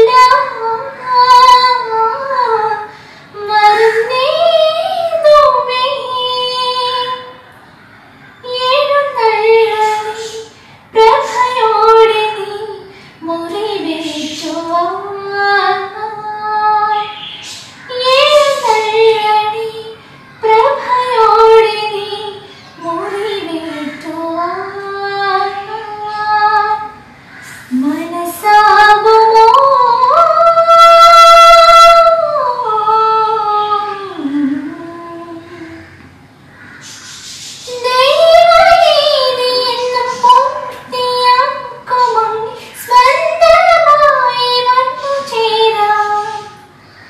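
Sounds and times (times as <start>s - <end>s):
woman singing unaccompanied: 0.0s - 7.5s, 8.4s - 27.1s, 27.7s - 36.0s, 37.7s - 46.7s.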